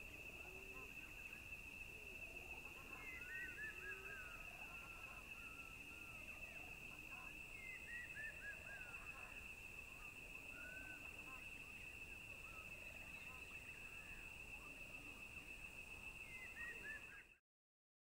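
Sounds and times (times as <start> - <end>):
high insect trill: 0.0 - 17.4.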